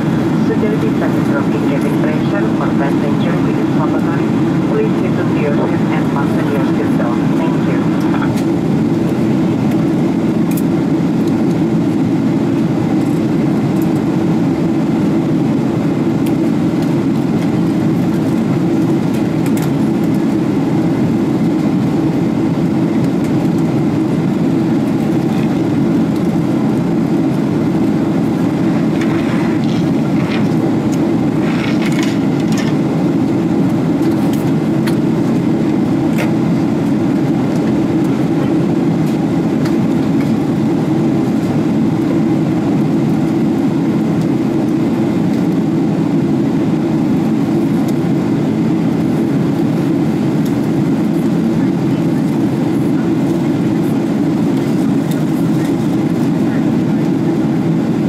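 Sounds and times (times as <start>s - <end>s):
jet engines drone in cabin: 0.0s - 58.0s.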